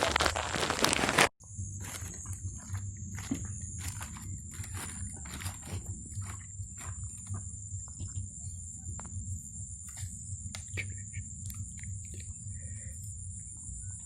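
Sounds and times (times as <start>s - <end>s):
insects trilling: 0.0s - 14.0s
low steady rumble: 1.4s - 14.0s.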